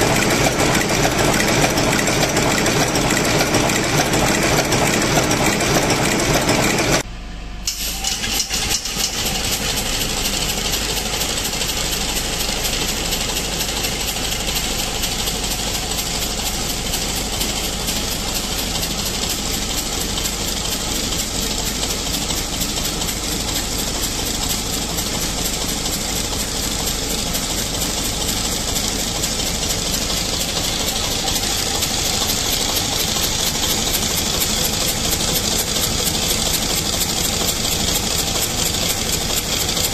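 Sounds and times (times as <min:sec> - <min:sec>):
diesel engine running: 0:00.0 - 0:07.0, 0:08.2 - 0:39.9.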